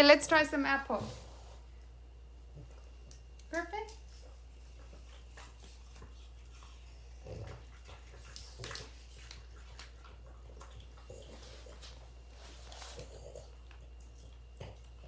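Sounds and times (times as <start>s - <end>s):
dogs crunching apple: 2.4s - 15.0s.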